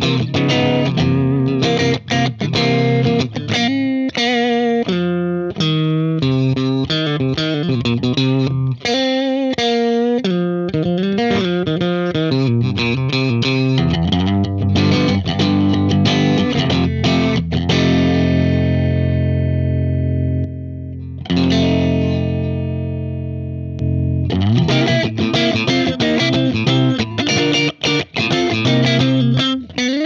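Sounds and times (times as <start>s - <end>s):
overdriven electric guitar: 0.0s - 30.0s.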